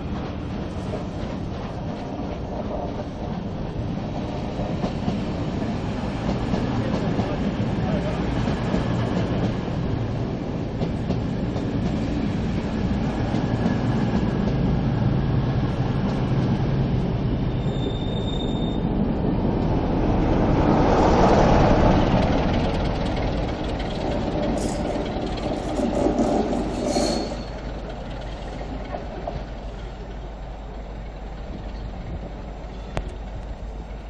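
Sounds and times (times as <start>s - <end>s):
diesel locomotive passing: 0.0s - 34.0s
train coaches rumbling past: 0.0s - 34.0s.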